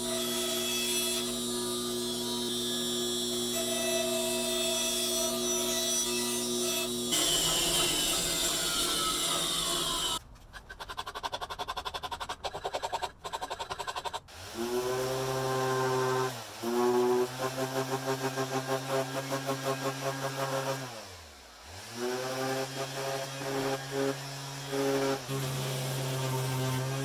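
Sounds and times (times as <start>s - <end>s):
power tool motor humming: 0.0s - 10.2s, 14.3s - 27.0s.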